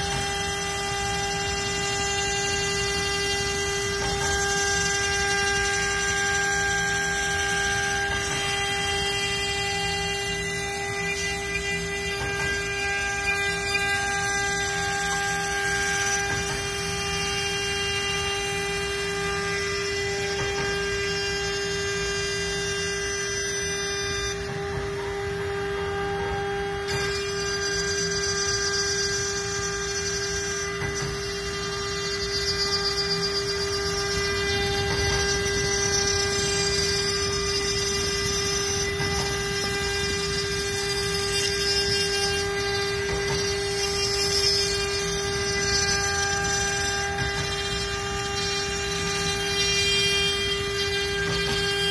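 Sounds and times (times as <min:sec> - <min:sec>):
cnc spindle humming: 0:00.0 - 0:51.9
end mill grinding chip: 0:00.0 - 0:51.9.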